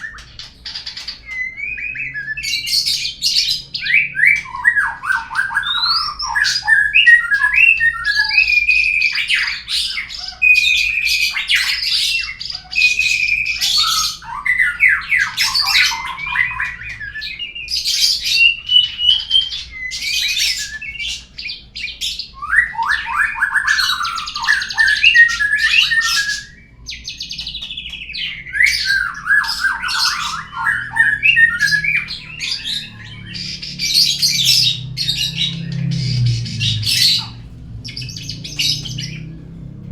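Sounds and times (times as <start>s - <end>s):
songbird whistles trills and squawks: 0.0s - 39.6s.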